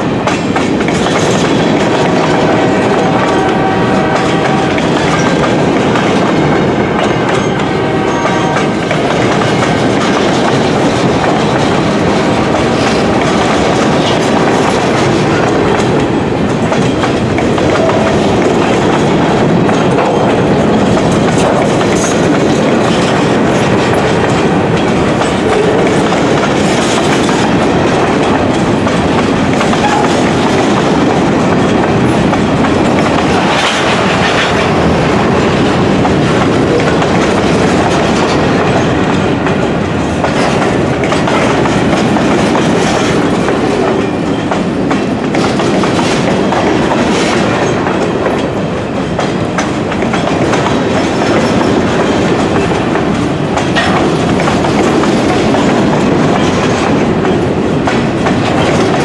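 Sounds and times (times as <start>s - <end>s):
train wheels rolling on rails: 0.0s - 59.0s
freight cars clanking: 8.4s - 59.0s.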